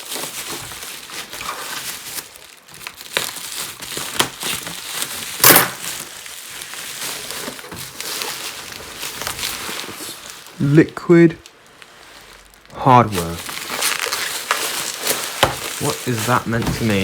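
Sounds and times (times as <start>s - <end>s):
packaging crinkling: 0.0s - 17.0s.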